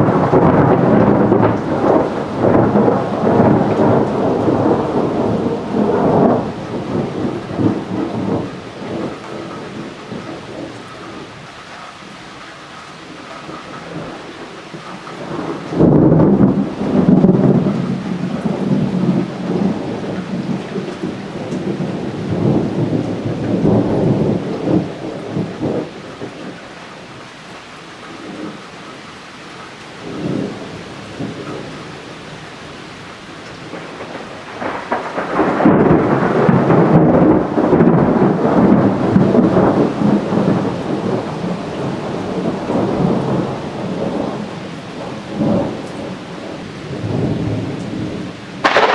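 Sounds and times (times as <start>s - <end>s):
rolling thunder: 0.0s - 11.5s, 13.1s - 27.2s, 30.0s - 32.0s, 33.6s - 48.9s.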